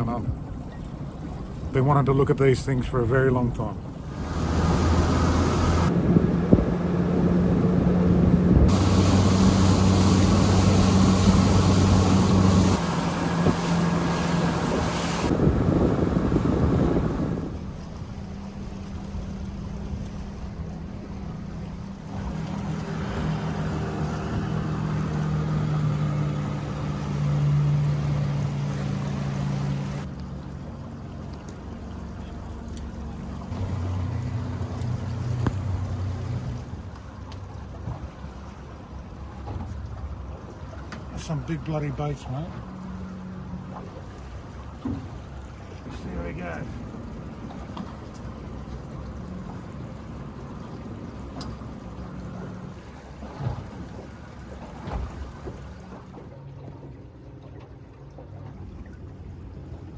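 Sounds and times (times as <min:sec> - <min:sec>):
outboard motor running: 0:00.0 - 0:59.9
rush of wind and water: 0:00.0 - 0:59.9.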